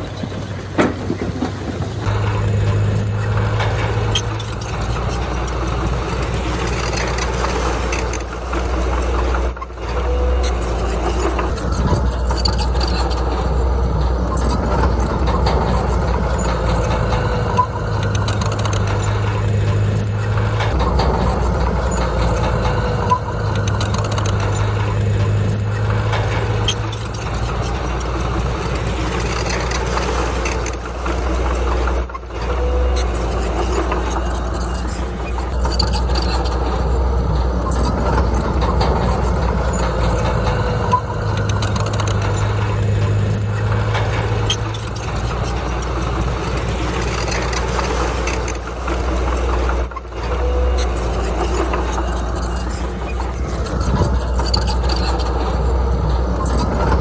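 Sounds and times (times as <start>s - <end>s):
diesel engine revving under load: 0.0s - 57.0s.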